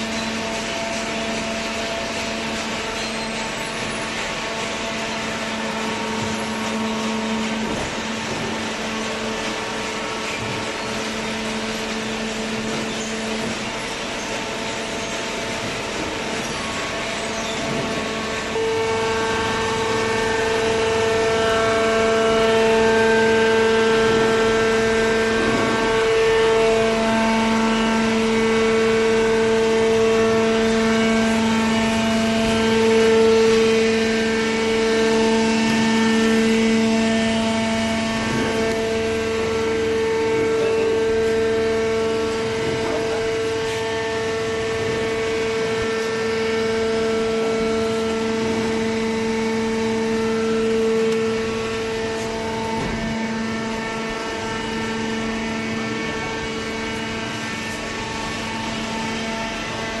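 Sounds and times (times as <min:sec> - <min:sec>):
hydraulic motor and pump hum: 0:00.0 - 1:00.0.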